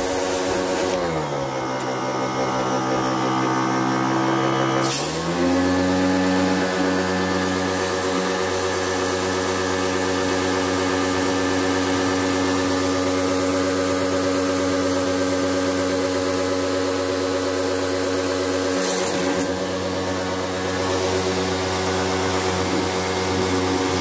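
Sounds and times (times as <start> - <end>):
pressure washer motor humming: 0.0 - 24.0.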